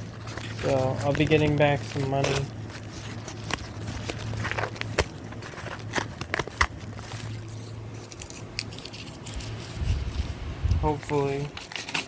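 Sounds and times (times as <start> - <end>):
sharp clicks of package handling: 0.0 - 9.3, 11.1 - 12.0
packaging rustling: 0.0 - 10.4, 11.0 - 12.0
low electrical hum: 0.0 - 12.0.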